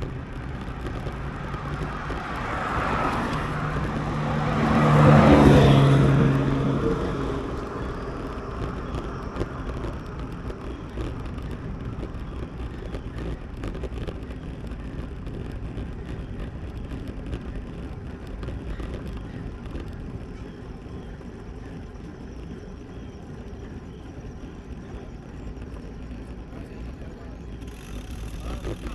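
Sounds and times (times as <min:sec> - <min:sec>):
motor vehicle passing: 0:00.0 - 0:28.9
small ticks and clicks: 0:00.0 - 0:28.9
wind and road noise: 0:00.0 - 0:28.9.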